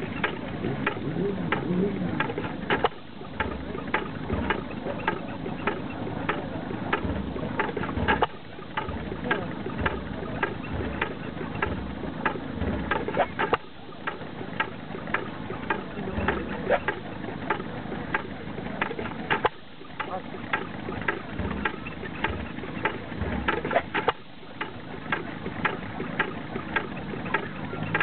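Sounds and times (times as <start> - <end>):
engine clicking: 0.0 - 28.0
engine firing thumps: 0.0 - 28.0.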